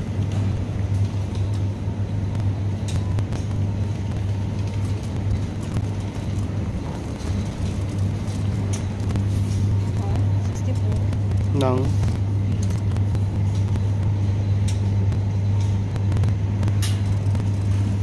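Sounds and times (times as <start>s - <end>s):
continuous rumble: 0.0s - 18.0s
steady low hum: 0.0s - 18.0s.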